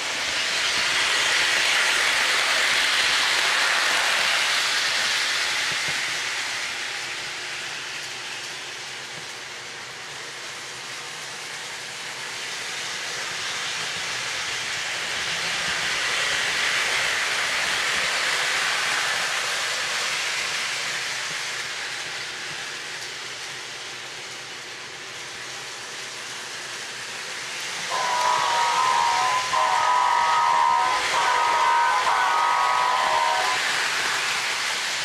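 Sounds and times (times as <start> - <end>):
model train rumbling on track: 0.0 - 35.0.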